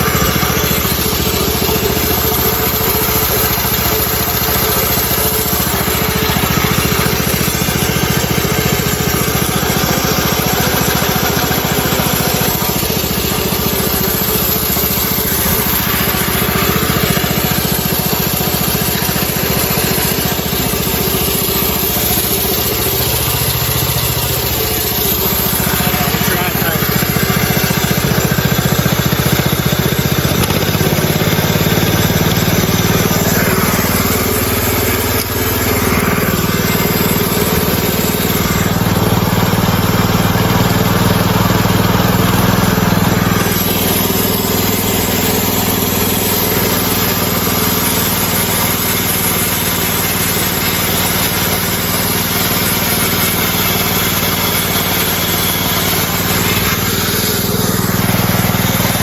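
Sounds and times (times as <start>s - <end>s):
band saw blade cutting log: 0.0s - 59.0s
small gasoline engine under load: 0.0s - 59.0s.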